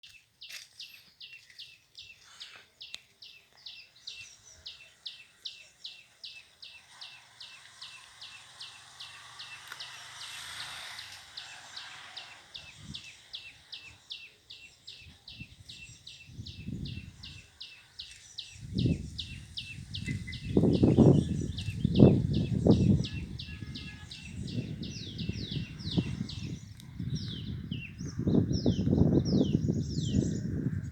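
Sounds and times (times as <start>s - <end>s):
bird chirping: 0.0s - 30.9s.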